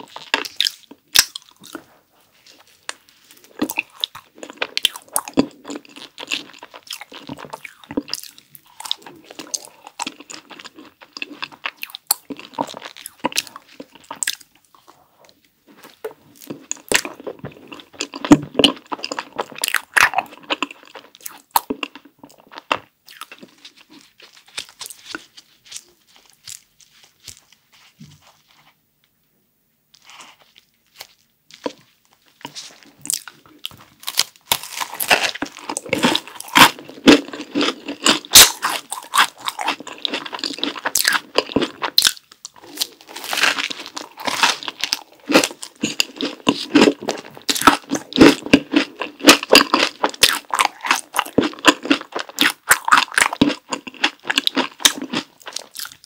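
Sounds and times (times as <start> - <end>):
chewing and crunching: 0.0 - 28.8, 29.9 - 56.0.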